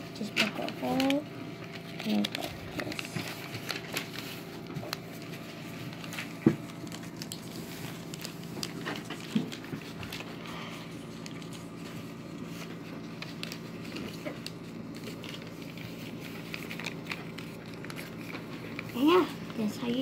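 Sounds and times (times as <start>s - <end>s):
steady low hum: 0.0s - 20.0s
paper rustling and crinkling: 0.2s - 20.0s.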